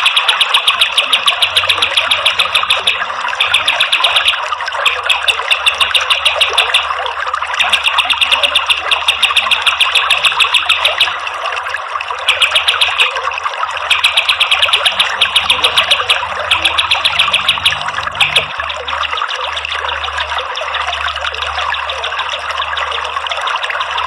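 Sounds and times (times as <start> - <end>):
bird trilling: 0.0 - 11.2, 12.2 - 13.3, 13.9 - 21.2.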